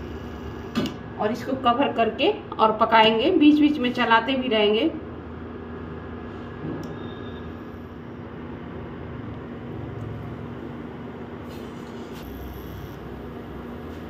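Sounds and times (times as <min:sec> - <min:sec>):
cooling fan humming: 0:00.0 - 0:14.0.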